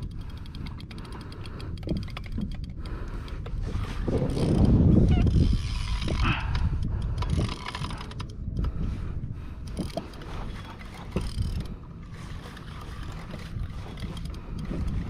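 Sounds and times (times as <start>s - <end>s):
fishing reel clicking: 0.0s - 8.8s, 9.6s - 11.7s, 12.3s - 15.0s
wind buffeting microphone: 0.0s - 15.0s.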